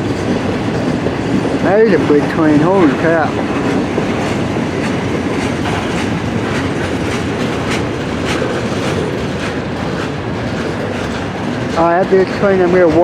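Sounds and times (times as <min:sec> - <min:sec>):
wheels clacking over rail joints: 0:00.0 - 0:13.0.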